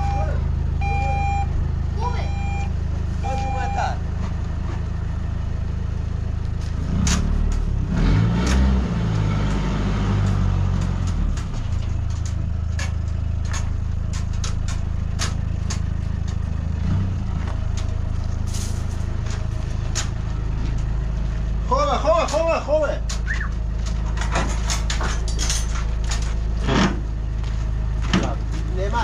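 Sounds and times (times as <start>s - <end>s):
truck engine running at low revs: 0.0s - 29.0s.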